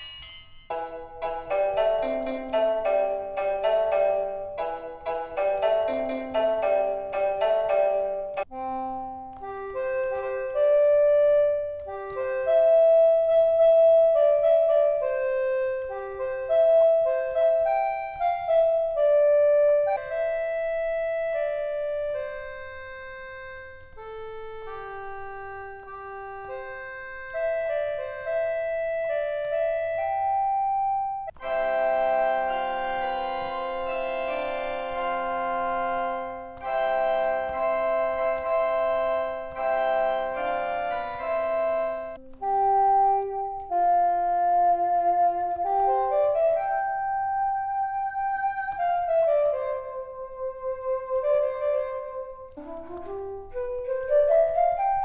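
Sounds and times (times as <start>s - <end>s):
organ-like keyboard music: 0.0s - 55.0s.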